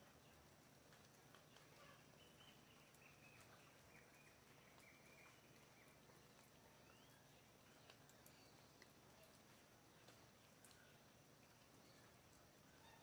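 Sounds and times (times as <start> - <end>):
soft ticks: 0.4 - 1.8, 2.8 - 12.5.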